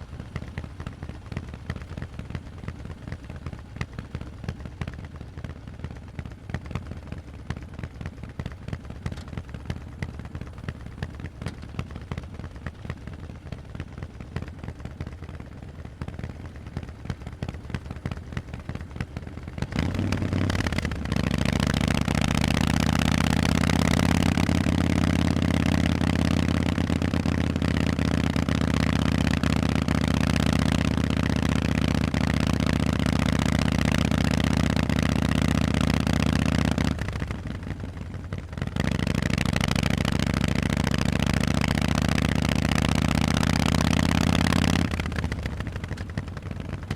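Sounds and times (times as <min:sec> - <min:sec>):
motorcycle v-twin engine revving: 0:00.0 - 0:46.9.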